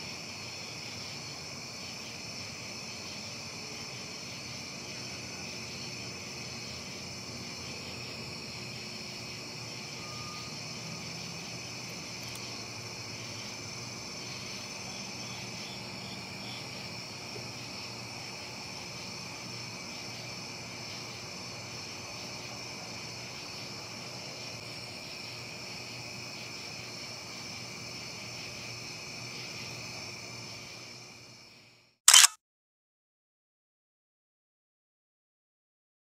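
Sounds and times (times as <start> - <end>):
insects trilling: 0.0 - 32.3.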